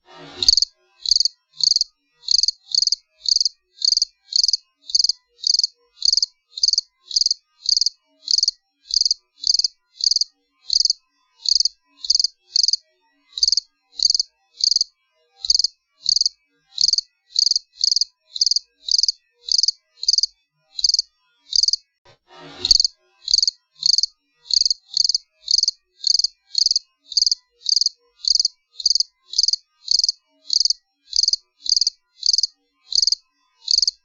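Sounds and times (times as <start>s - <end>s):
cricket chirping: 0.4s - 12.8s, 13.4s - 21.8s, 22.7s - 34.0s.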